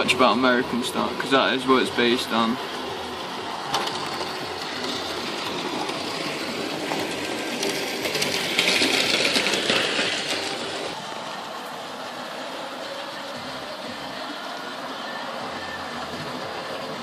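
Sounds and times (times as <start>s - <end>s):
model train motor whir: 0.0s - 17.0s
wheels clicking on rails: 0.0s - 17.0s.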